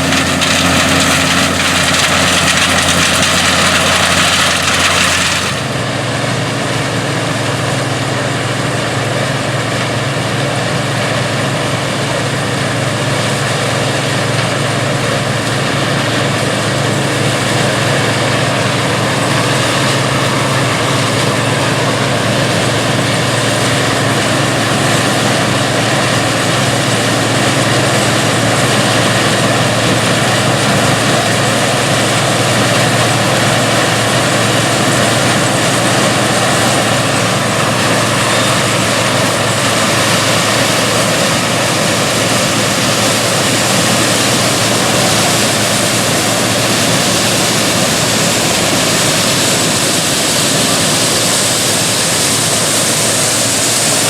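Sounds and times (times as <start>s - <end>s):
combine harvester running: 0.0s - 54.0s
low machinery hum: 0.0s - 54.0s.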